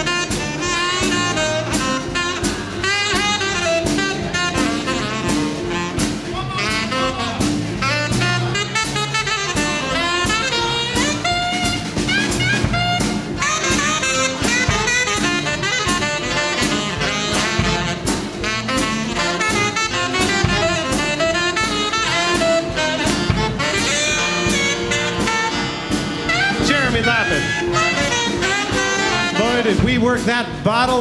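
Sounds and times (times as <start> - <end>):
big band playing swing: 0.0 - 31.0.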